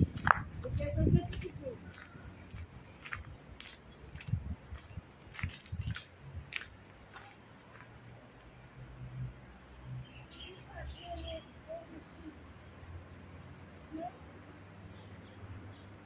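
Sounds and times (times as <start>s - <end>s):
birds chirping: 0.0s - 8.6s, 9.6s - 16.0s.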